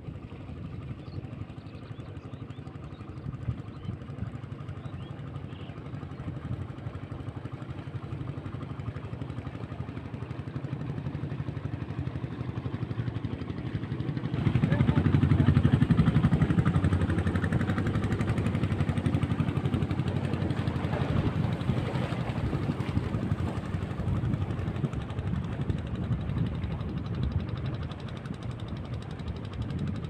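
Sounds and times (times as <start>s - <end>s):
small engine running: 4.3s - 30.0s.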